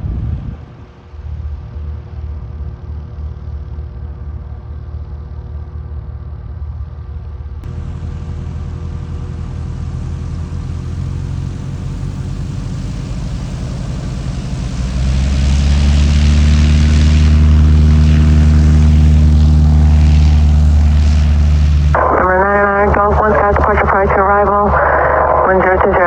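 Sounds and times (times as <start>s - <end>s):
propeller airplane engine drone: 0.0s - 26.0s.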